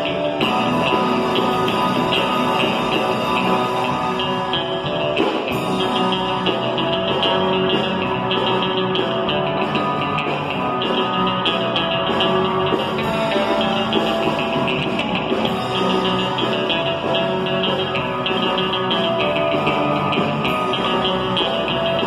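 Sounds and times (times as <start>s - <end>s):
live surf rock band: 0.0s - 22.0s.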